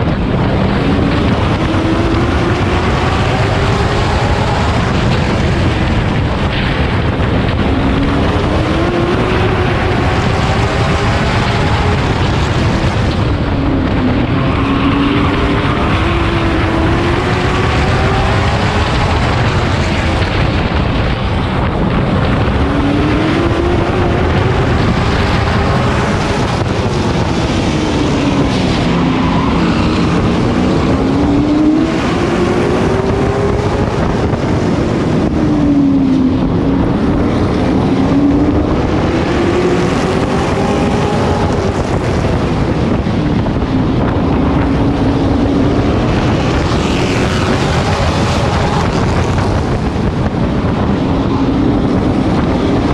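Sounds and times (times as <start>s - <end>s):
race truck engine revving: 0.0s - 52.9s
wind and road noise: 0.0s - 52.9s.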